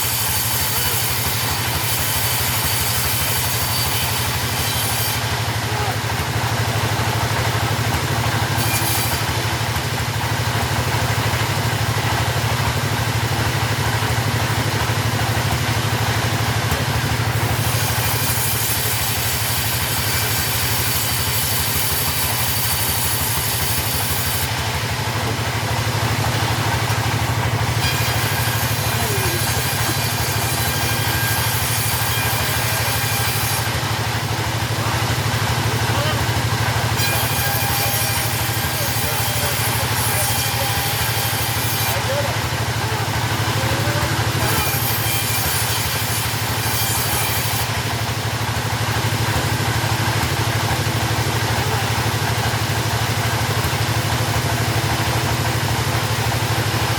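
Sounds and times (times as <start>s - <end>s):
chainsaw engine running: 0.0s - 56.9s.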